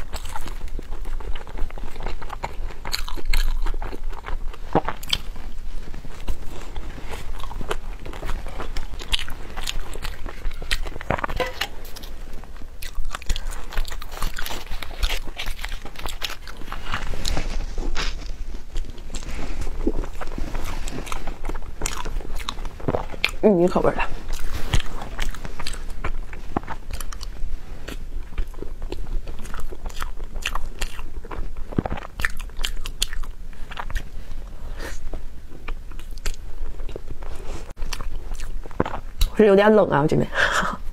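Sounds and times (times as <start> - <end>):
chewing soft food: 0.0 - 39.5.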